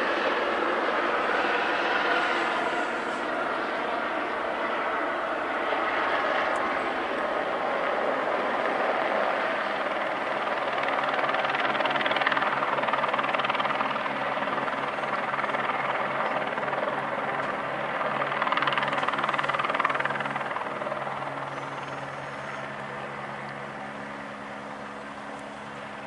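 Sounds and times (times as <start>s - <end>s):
helicopter hovering: 0.0s - 26.0s.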